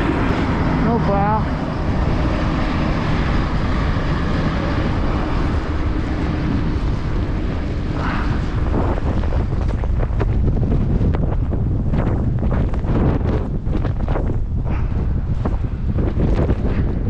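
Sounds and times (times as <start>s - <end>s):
truck engine droning: 0.0s - 17.0s
wind buffeting microphone: 0.0s - 17.0s.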